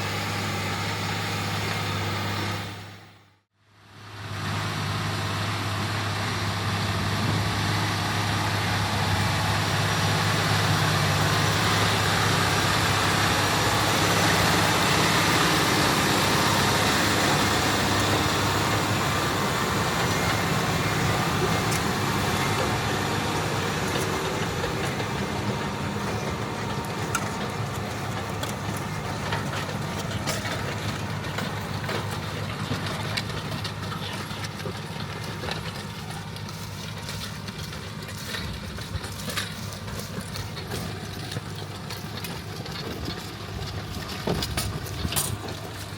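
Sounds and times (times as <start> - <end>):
tractor engine under load: 0.0 - 45.9.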